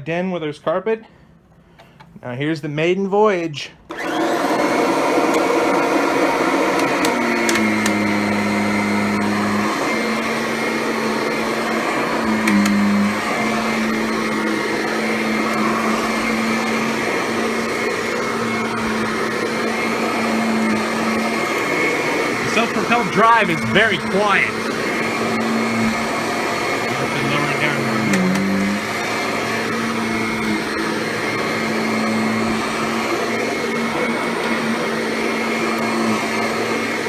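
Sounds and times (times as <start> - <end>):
vacuum cleaner running on carpet: 3.9 - 37.0.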